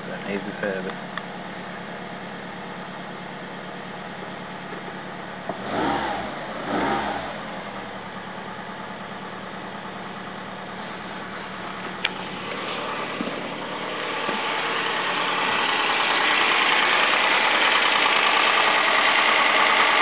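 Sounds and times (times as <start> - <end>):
car engine idling: 0.0 - 20.0
car engine revving: 0.0 - 20.0.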